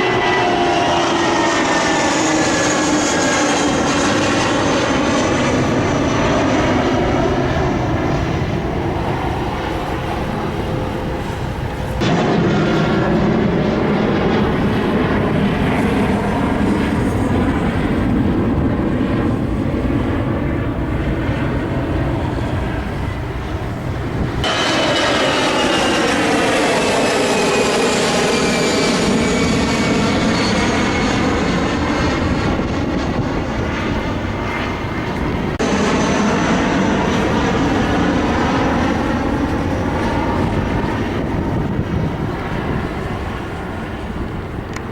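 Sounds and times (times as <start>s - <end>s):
layered whine shifting pitch: 0.0s - 20.7s, 22.2s - 42.1s
jet engines running loudly: 0.0s - 44.9s.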